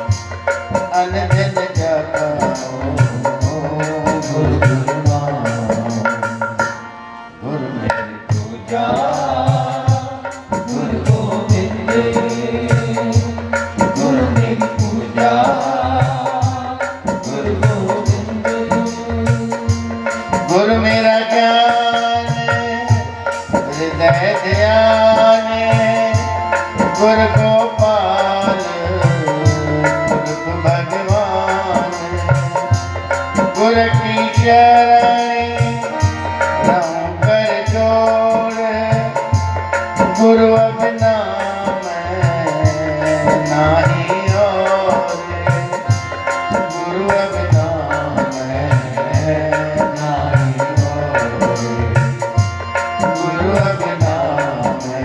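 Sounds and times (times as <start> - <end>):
man singing slow melody: 0.0 - 55.0
tabla rhythm: 0.0 - 55.0.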